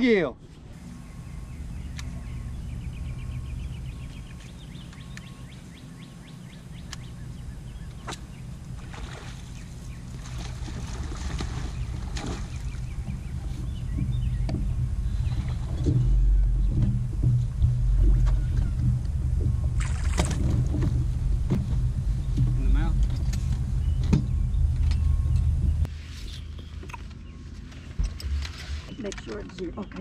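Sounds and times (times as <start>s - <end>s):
boat motor humming: 0.0s - 30.0s.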